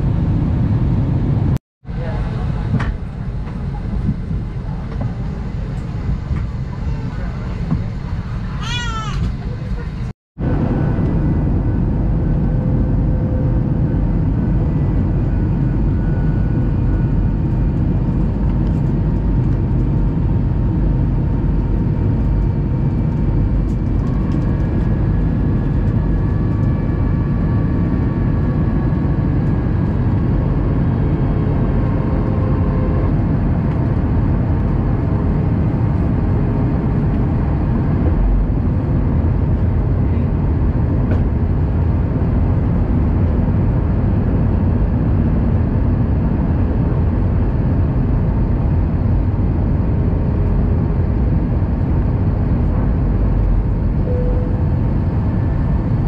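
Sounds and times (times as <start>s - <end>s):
airplane cabin airflow rush: 0.0s - 56.0s
jet engine drone: 0.0s - 56.0s.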